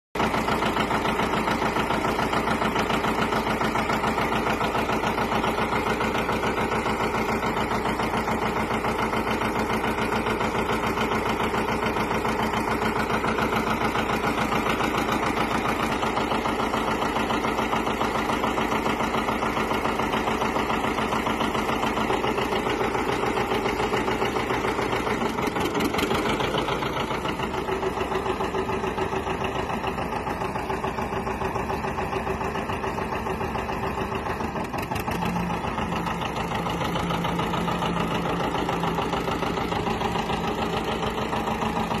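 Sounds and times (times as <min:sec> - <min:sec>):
tractor diesel engine running: 0:00.2 - 0:42.0.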